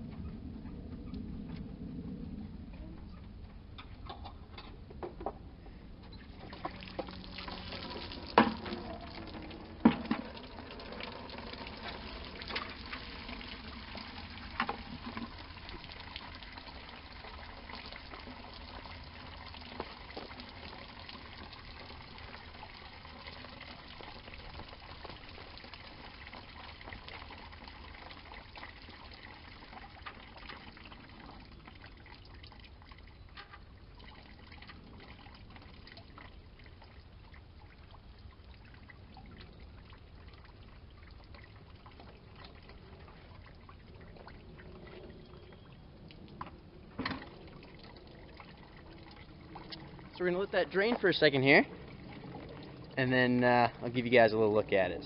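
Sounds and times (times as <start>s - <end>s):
coolant splashing into bucket: 6.2s - 55.0s.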